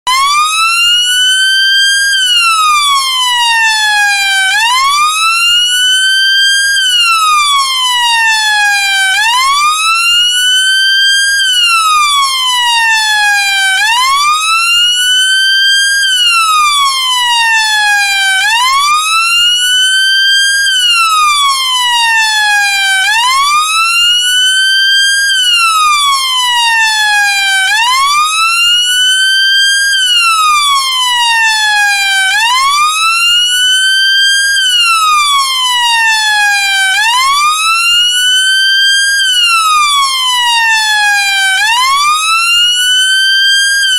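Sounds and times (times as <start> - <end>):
police siren wailing: 0.0 - 43.9.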